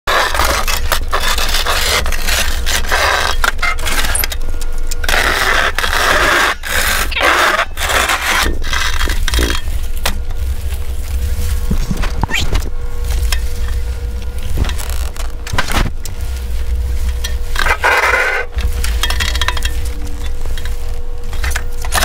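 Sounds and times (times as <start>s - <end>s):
low motor hum: 0.1s - 22.0s.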